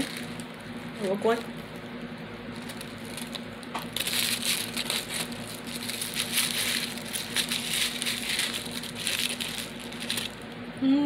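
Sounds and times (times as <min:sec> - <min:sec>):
plastic wrapper crinkling: 0:00.0 - 0:10.6.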